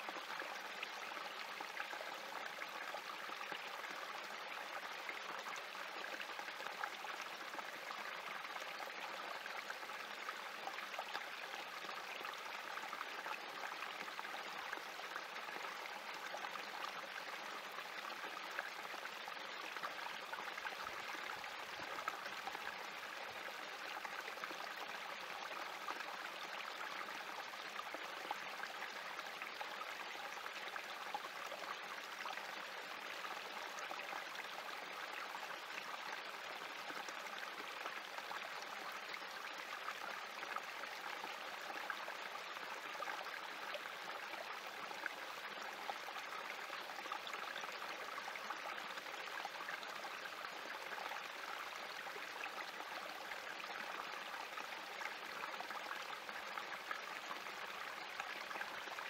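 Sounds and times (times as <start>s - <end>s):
creek trickling and splashing: 0.0s - 59.0s.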